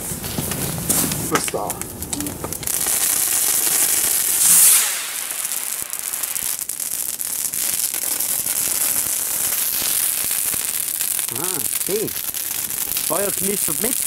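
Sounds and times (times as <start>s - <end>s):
fire crackling: 0.0s - 14.0s
fireworks hissing and crackling: 0.0s - 14.0s.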